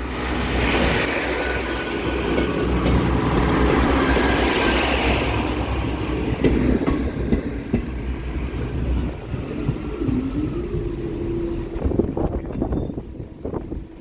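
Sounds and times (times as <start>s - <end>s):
train rumbling past: 0.0s - 14.0s
wheels clacking on rails: 0.0s - 14.0s.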